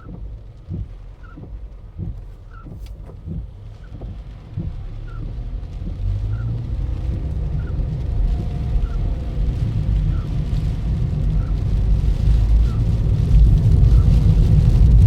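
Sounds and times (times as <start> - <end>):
road and wind rumble: 0.0 - 15.0.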